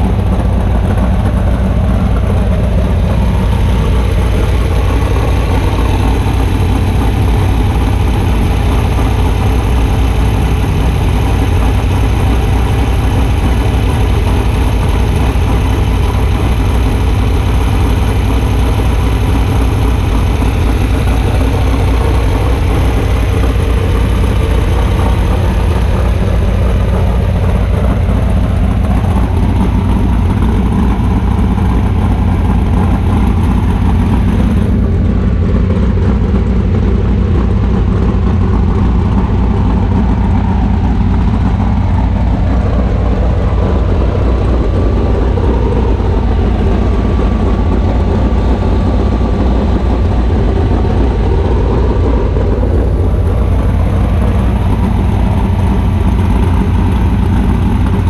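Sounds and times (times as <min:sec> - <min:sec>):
buggy engine idling: 0:00.0 - 0:58.0.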